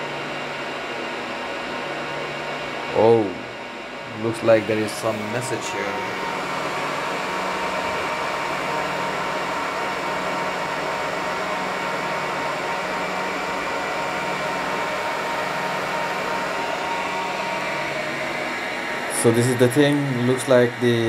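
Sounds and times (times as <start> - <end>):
server cooling fans running: 0.0 - 21.0.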